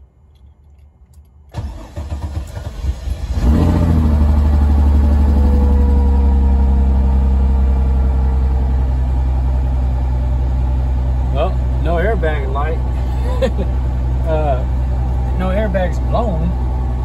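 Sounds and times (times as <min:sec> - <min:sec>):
car engine cranking and running: 0:00.2 - 0:17.0.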